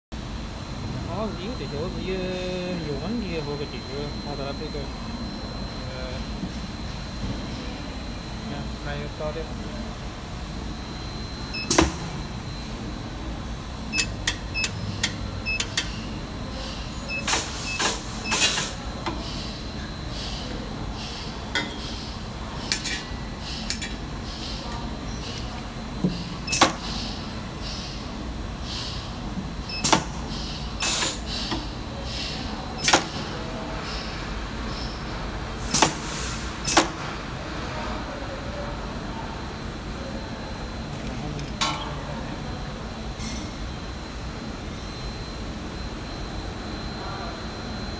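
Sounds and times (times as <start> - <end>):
machine motor hum with whine: 0.2 - 47.9.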